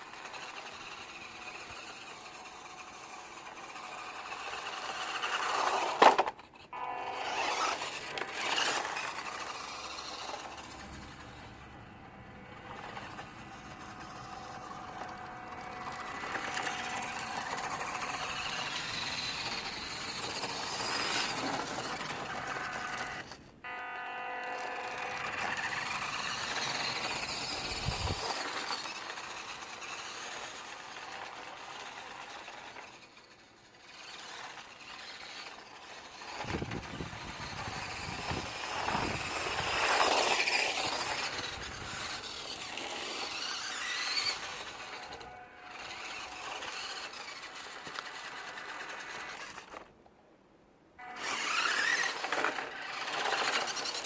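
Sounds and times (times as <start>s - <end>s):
small electric motor whining: 0.0s - 50.0s, 51.0s - 54.0s.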